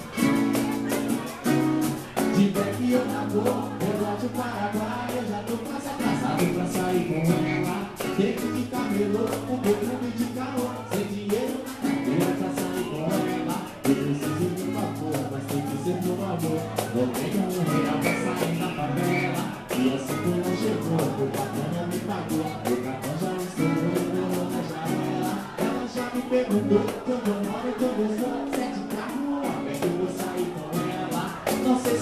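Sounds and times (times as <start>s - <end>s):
live band with singing: 0.0s - 32.0s
percussion beat: 0.0s - 32.0s.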